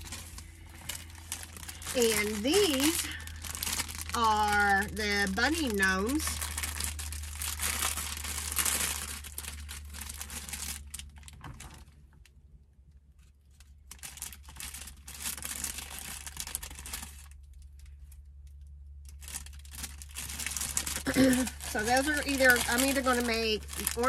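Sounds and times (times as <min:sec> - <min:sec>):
cellophane crinkling: 0:00.0 - 0:12.3, 0:13.2 - 0:24.0
steady low hum: 0:00.0 - 0:24.0.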